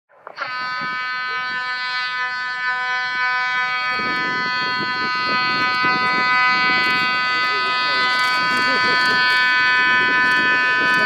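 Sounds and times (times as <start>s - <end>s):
electric hooter buzzing tone: 0.2s - 11.0s.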